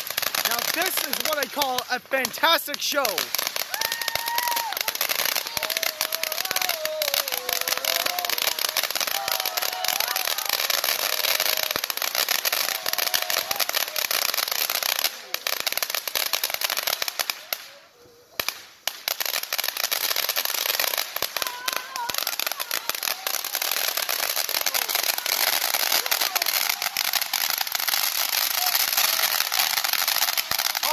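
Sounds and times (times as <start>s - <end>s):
firework fountain crackling: 0.0s - 30.9s.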